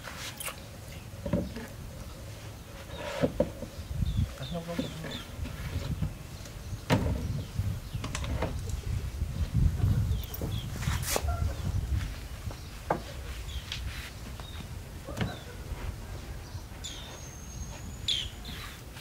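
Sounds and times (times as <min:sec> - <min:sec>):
birds chirping: 0:00.4 - 0:19.0.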